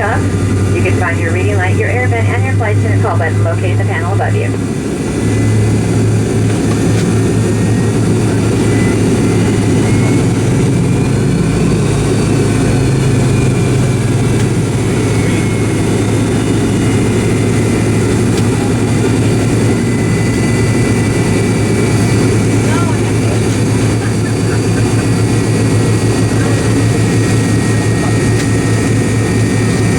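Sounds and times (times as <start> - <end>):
jet engines humming in cabin: 0.0 - 29.9.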